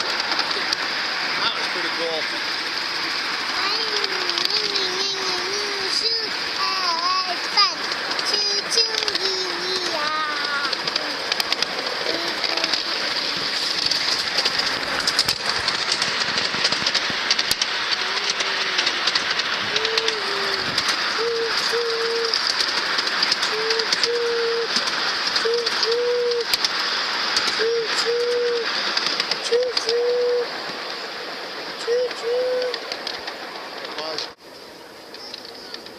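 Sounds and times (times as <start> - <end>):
miniature train running: 0.0 - 35.9.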